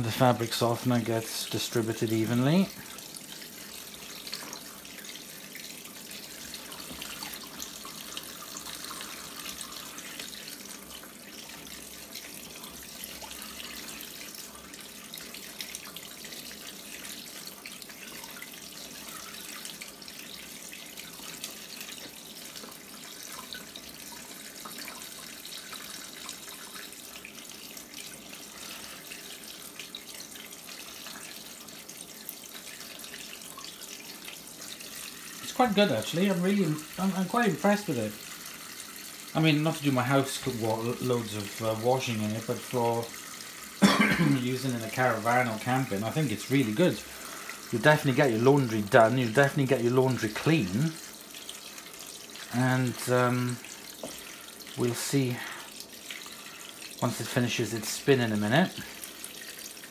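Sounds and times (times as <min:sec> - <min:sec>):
water running from a hose: 0:00.0 - 0:59.9.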